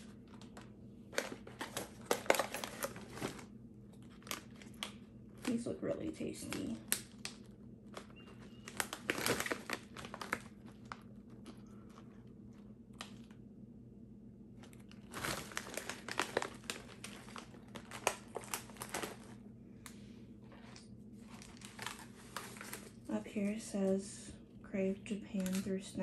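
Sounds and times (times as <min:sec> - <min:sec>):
plastic packaging crinkling: 0:00.0 - 0:13.4, 0:14.5 - 0:23.2.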